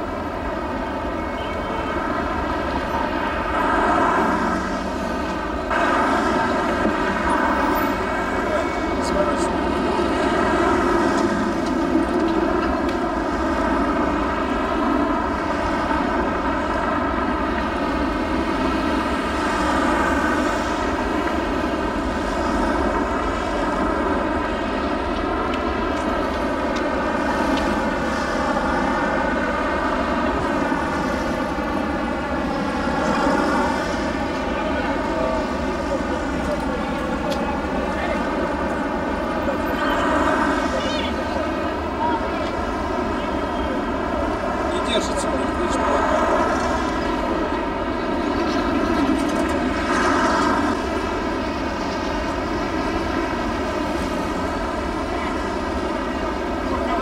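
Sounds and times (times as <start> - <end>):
engine drone with phasing tone: 0.0 - 57.0.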